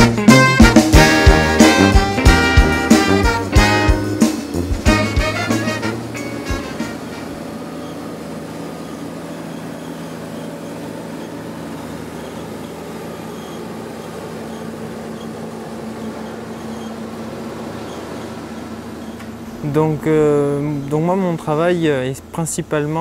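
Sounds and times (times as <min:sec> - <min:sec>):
harvester engine hum: 0:00.0 - 0:23.0.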